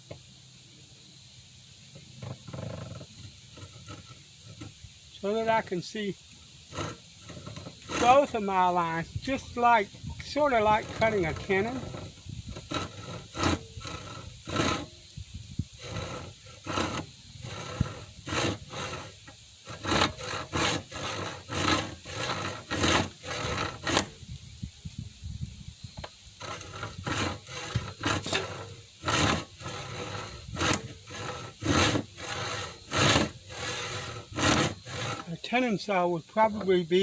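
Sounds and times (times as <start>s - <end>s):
hand saw cutting wood: 2.2s - 15.1s, 15.8s - 24.2s, 26.0s - 35.4s.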